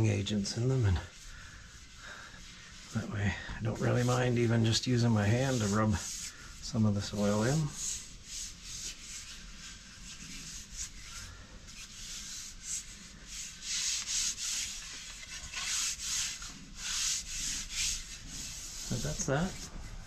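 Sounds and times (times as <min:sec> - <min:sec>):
hand rubbing wood swishing: 0:00.0 - 0:20.0.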